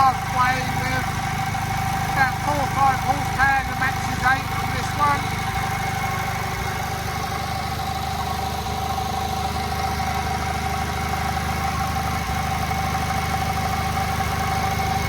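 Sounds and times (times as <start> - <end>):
generator whine: 0.0 - 15.0
stationary engine running: 0.0 - 15.0.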